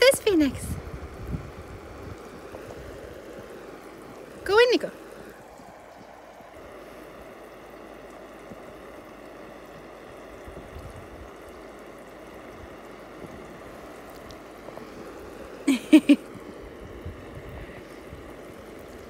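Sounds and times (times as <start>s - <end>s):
hiss of water jets: 0.0s - 19.0s.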